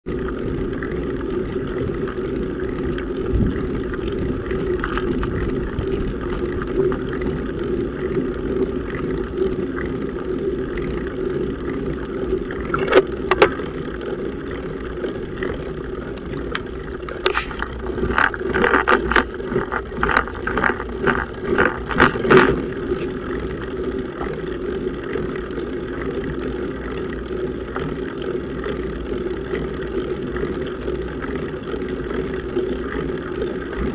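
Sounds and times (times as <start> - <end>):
bicycle tyre road noise: 0.0 - 33.9
low hum: 0.0 - 33.9
sharp clicks and rattles: 1.6 - 11.2, 11.8 - 29.6.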